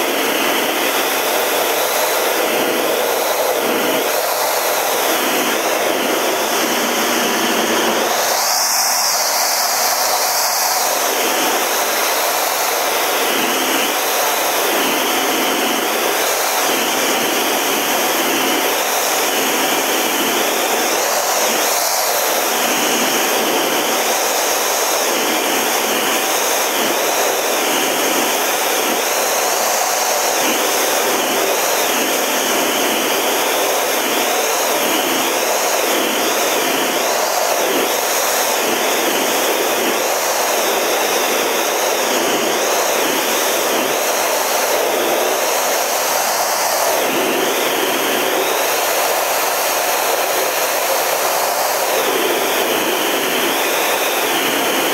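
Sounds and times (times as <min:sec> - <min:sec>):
faint steady whine: 0:00.0 - 0:54.9
jet engine and airflow rush: 0:00.0 - 0:54.9.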